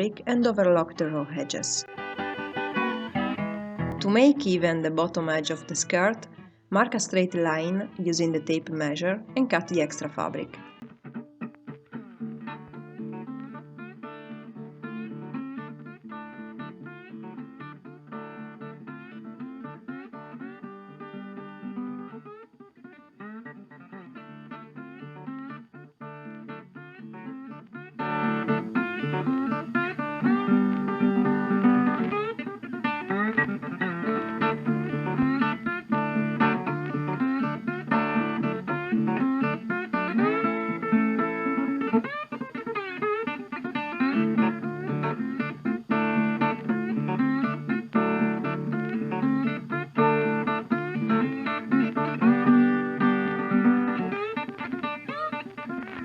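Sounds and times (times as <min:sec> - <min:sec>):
acoustic blues guitar picking: 0:00.0 - 0:56.0.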